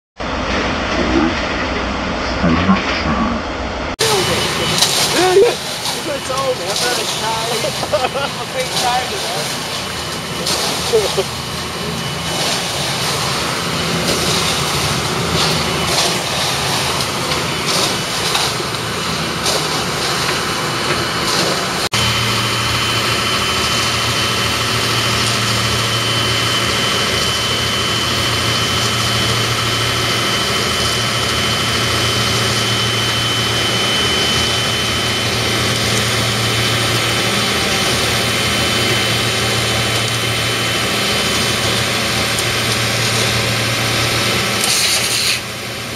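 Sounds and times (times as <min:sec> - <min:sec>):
engine drone: 0:00.2 - 0:45.9
high whine: 0:00.2 - 0:45.9
concrete mixer clattering: 0:04.0 - 0:45.9.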